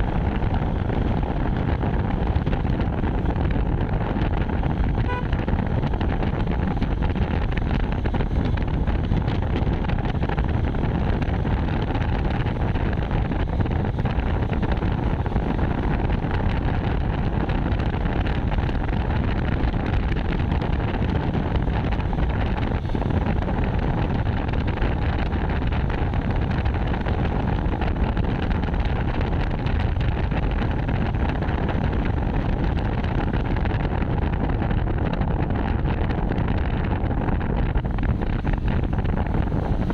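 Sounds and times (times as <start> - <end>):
moving bike road noise: 0.0 - 39.9
wind rushing over microphone: 0.0 - 39.9.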